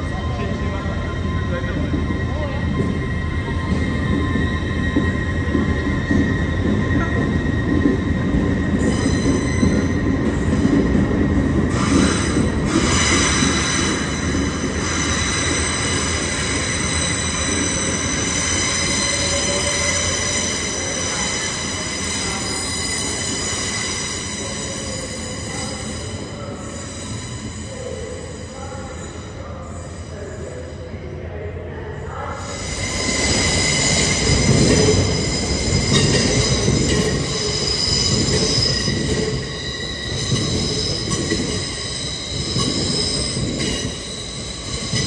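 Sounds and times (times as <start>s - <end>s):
train wheels squealing: 0.0s - 31.2s, 31.9s - 45.0s
low train rumble: 0.0s - 45.0s.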